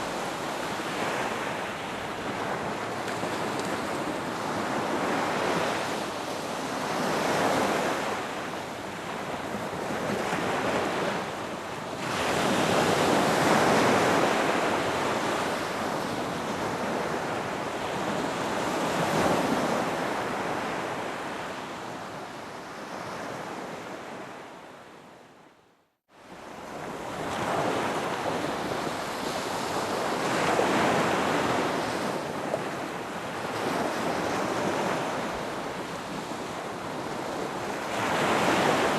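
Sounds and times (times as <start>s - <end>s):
waves breaking on a beach: 0.0s - 25.5s, 26.1s - 38.9s.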